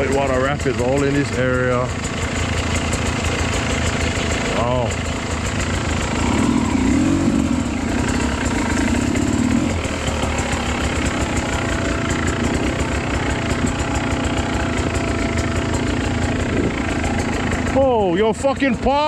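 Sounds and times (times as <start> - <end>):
dirt bike engine at low revs: 0.0 - 19.0.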